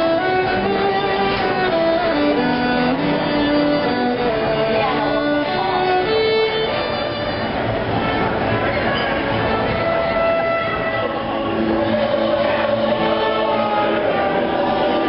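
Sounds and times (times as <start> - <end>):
slow violin melody: 0.0 - 15.0.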